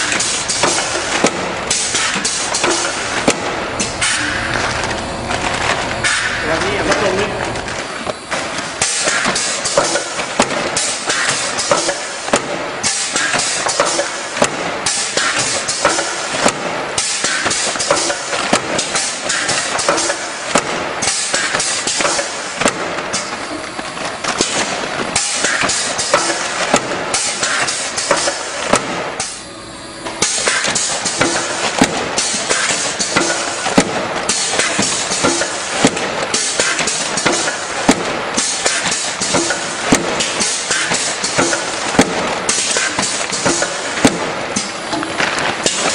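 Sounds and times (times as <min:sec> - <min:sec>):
packaging machinery clattering: 0:00.0 - 0:45.9
steady mechanical noise: 0:00.0 - 0:45.9.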